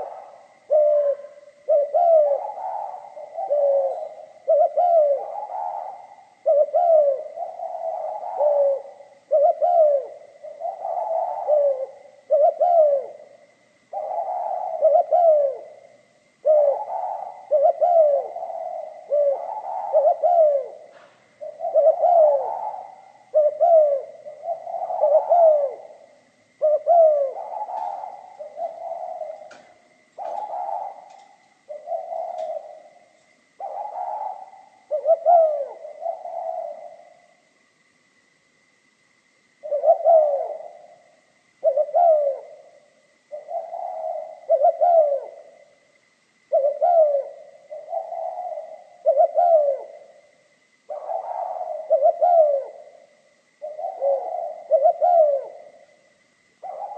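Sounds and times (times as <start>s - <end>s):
dove cooing: 0.0s - 38.0s, 39.1s - 56.9s.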